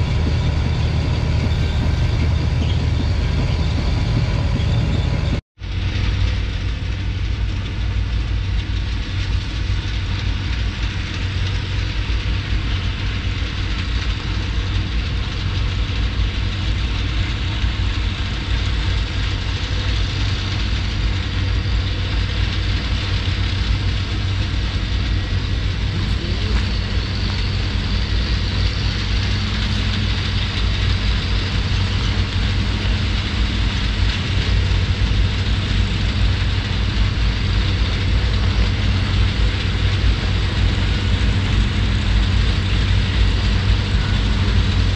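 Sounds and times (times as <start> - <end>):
diesel engines working: 0.0 - 44.9.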